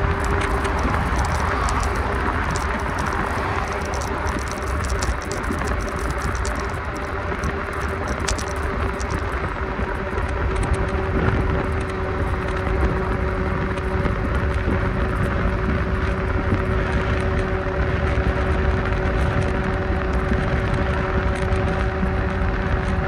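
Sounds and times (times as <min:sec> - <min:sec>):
constant hum of held tones: 0:00.0 - 0:23.0
vehicle engine rumble: 0:00.0 - 0:23.0.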